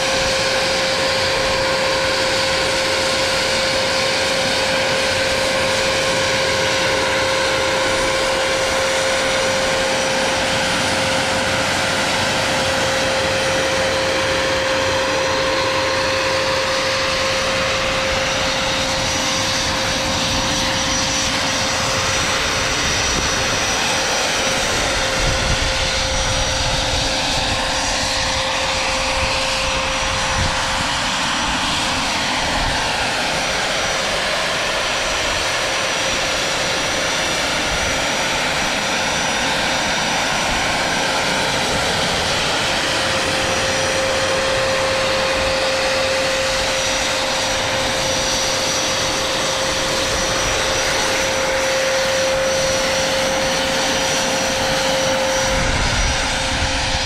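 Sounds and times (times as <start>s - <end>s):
model turbine engine whine: 0.0s - 57.0s.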